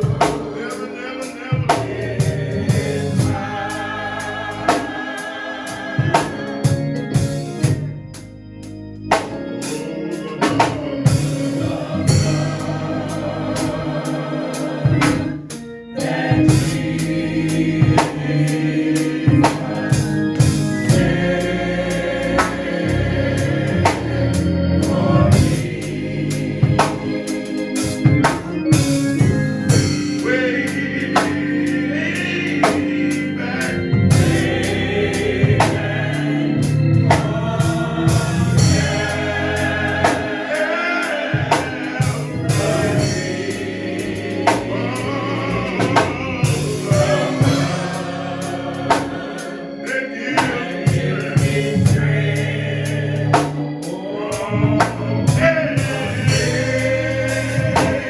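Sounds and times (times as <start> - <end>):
drum kit beat: 0.0 - 8.3, 9.1 - 49.6, 50.3 - 58.0
gospel choir singing: 0.0 - 58.0
organ: 0.0 - 58.0.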